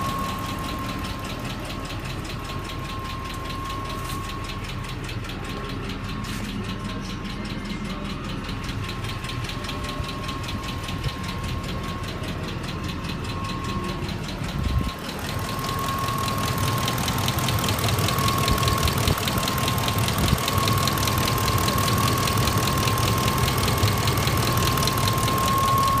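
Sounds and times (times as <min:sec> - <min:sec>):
fast even engine ticking: 0:00.0 - 0:26.0
steady high whine: 0:00.0 - 0:26.0
truck engine running: 0:00.0 - 0:26.0.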